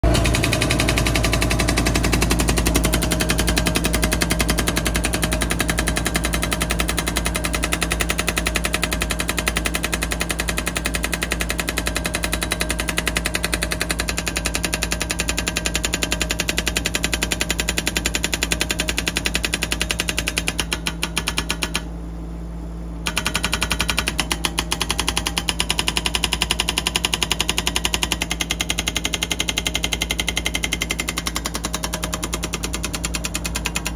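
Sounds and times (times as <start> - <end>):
hydraulic rock breaker hammering rock: 0.0 - 21.9, 23.0 - 33.9
excavator engine running: 0.0 - 33.9.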